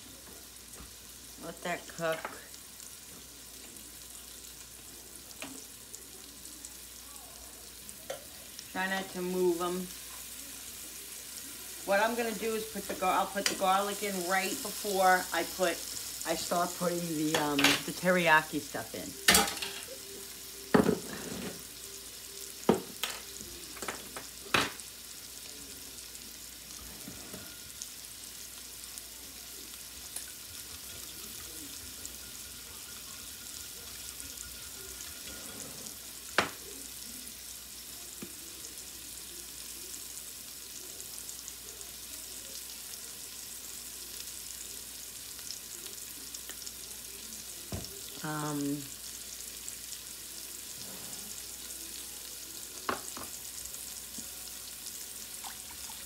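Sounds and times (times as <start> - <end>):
fish sizzling in a pan: 0.0 - 56.0.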